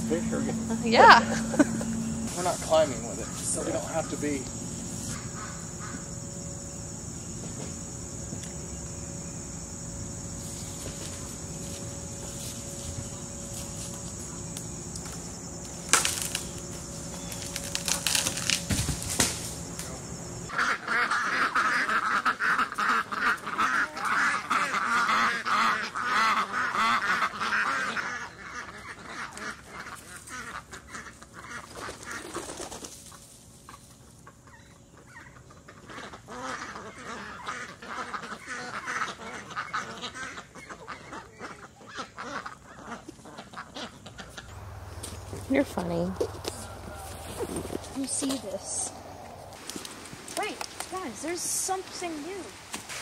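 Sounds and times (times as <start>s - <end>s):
flock of birds calling: 0.0s - 18.6s, 19.6s - 52.7s
insects trilling: 0.0s - 53.0s.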